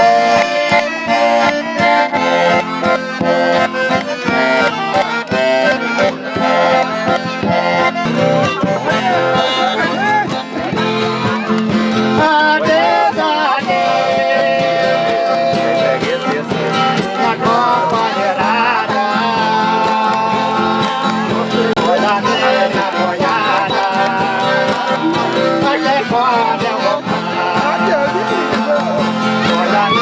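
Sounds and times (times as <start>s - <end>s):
button accordion: 0.0s - 30.0s
strummed strings: 0.0s - 30.0s.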